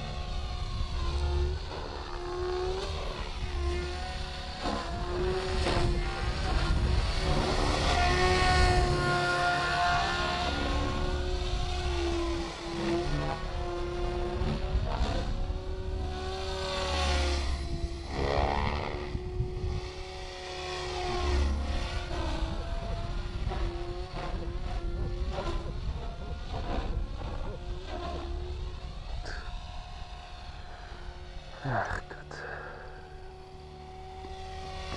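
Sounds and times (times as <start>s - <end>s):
electric motor whining: 0.0s - 34.9s
rotor blades buzzing: 0.0s - 34.9s.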